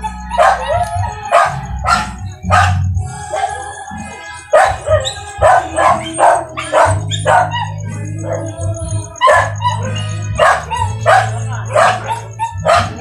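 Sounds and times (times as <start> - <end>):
dog barking: 0.0 - 3.6, 4.4 - 13.0
background music with bass: 0.0 - 13.0.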